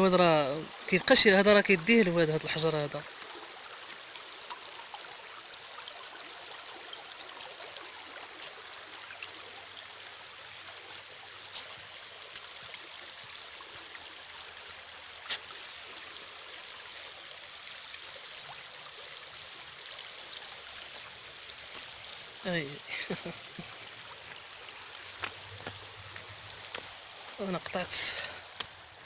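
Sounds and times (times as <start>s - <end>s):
water running over stones: 0.0s - 29.0s.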